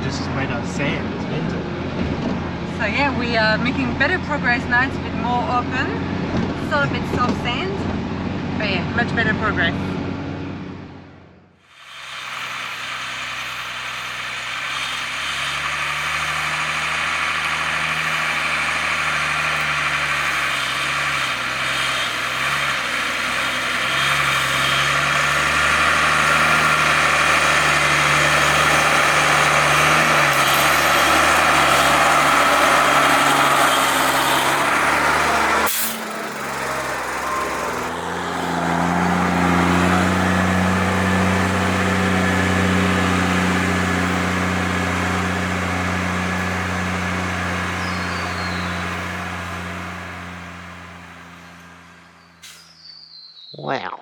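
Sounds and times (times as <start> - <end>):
diesel truck engine under load: 0.0 - 53.3.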